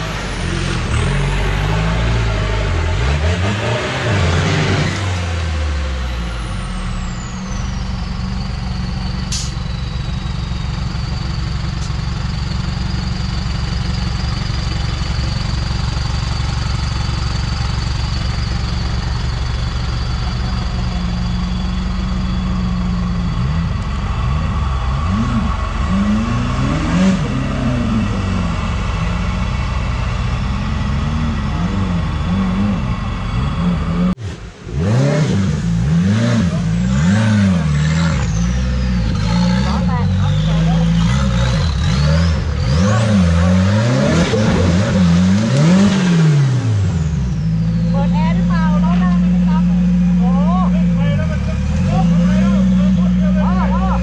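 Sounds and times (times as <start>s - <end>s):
diesel engine revving under load: 0.0s - 54.0s.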